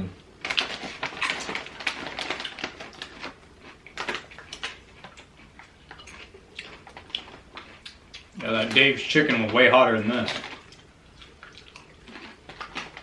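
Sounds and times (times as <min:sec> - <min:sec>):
chips crunching while chewed: 0:00.4 - 0:13.0.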